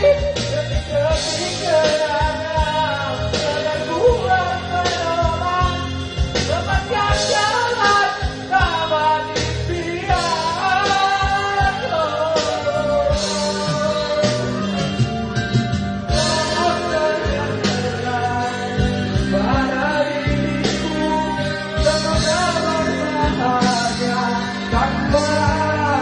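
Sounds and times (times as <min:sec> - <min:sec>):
band with steady beat: 0:00.0 - 0:26.0
person singing: 0:00.0 - 0:26.0.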